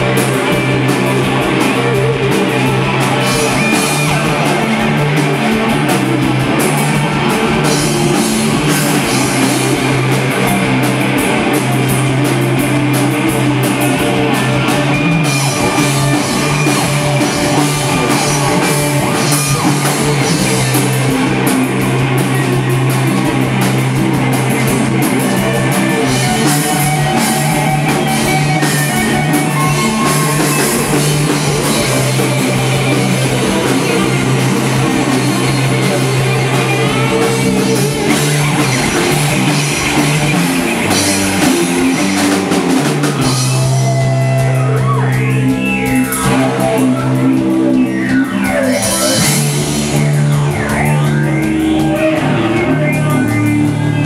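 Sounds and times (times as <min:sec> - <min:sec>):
rock band playing loud: 0:00.0 - 0:54.0.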